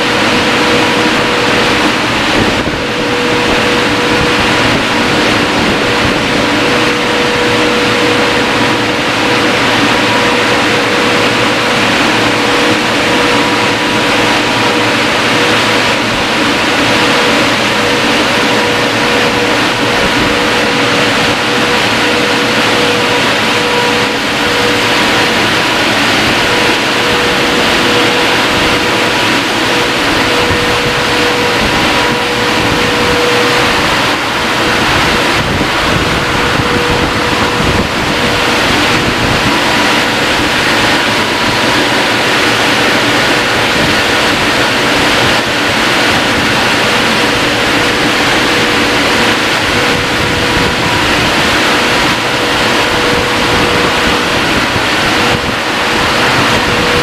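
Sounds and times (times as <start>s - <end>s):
car wash dryer blowers: 0.0s - 57.0s.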